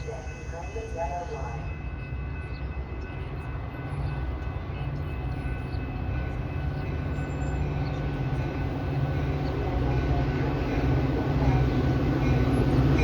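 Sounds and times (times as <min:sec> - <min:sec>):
diesel train rumble: 0:00.0 - 0:13.0.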